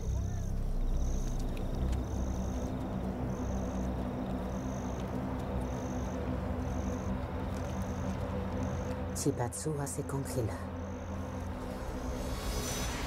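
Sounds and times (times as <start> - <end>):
insect trilling: 0.0 - 13.0
insects chirping in pulses: 0.0 - 13.0.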